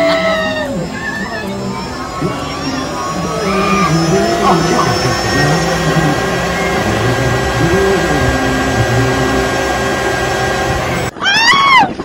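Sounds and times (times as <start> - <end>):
electric motor whirring drone: 0.0 - 11.2.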